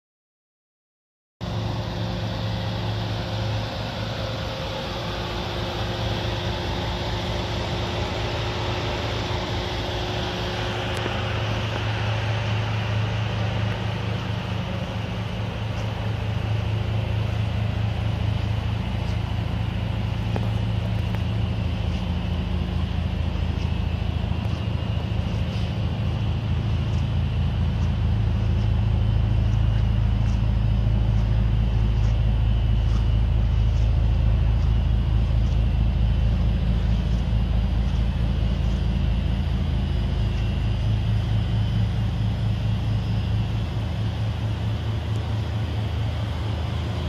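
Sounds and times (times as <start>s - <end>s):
car engine idling: 1.4s - 47.0s.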